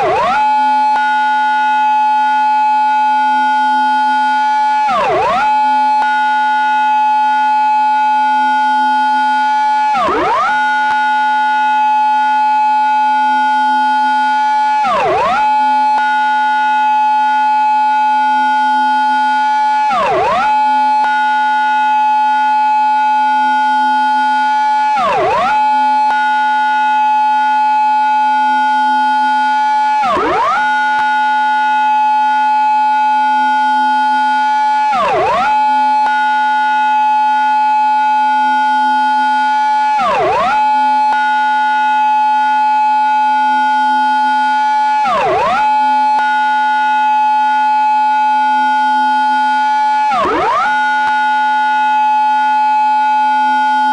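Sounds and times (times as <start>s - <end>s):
police car siren: 0.0s - 53.9s.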